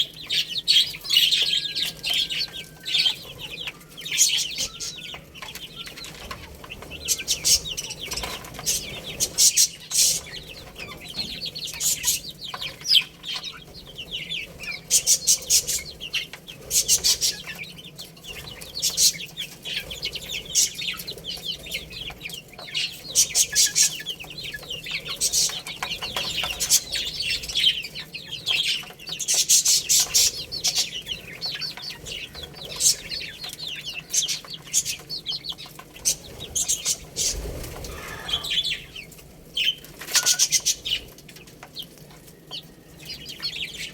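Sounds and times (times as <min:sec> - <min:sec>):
baby chicks peeping: 0:00.0 - 0:43.9.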